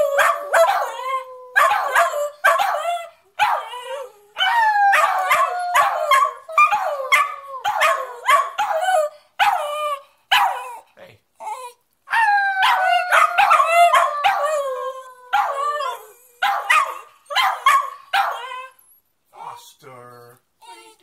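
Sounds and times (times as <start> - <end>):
dog howling: 0.0 - 10.8, 11.4 - 18.8.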